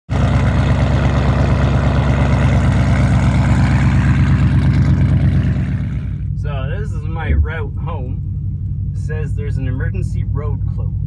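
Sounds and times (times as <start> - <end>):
car engine running: 0.1 - 11.0.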